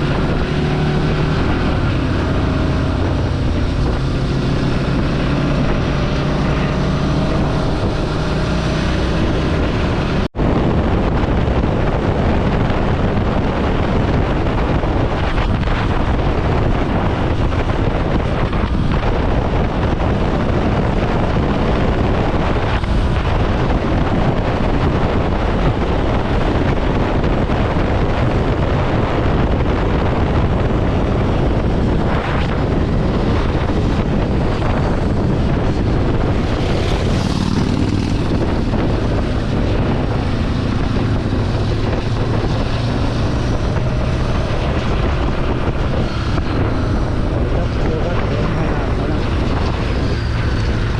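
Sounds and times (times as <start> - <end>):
motorcycle engine running: 0.0 - 50.9
wind rush on microphone: 0.0 - 50.9.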